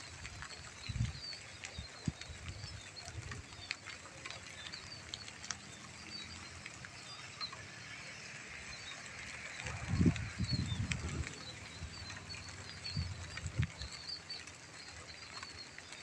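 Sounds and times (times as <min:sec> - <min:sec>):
light drizzle pattering: 0:00.0 - 0:16.0.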